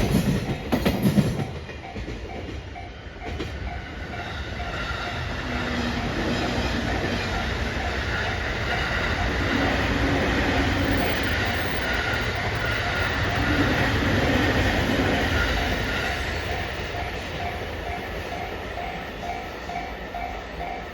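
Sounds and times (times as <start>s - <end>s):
freight train rolling over rails: 0.0s - 20.9s
level-crossing warning bell: 0.0s - 20.9s.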